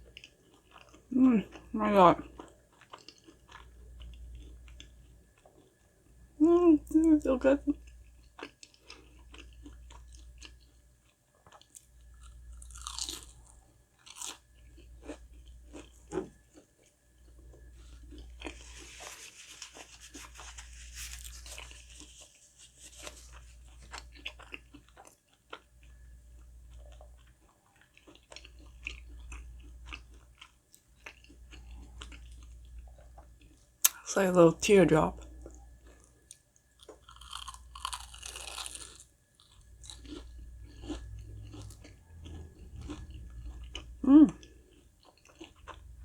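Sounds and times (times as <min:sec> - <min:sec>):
crunchy chewing: 0:00.0 - 0:06.2, 0:07.8 - 0:34.0, 0:35.2 - 0:46.0.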